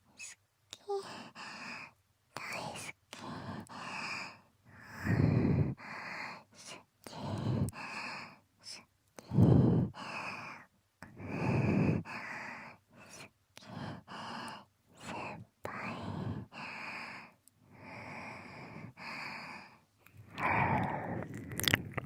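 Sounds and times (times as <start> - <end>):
breathy exhales and sighs: 3.2 - 8.4, 9.2 - 22.0.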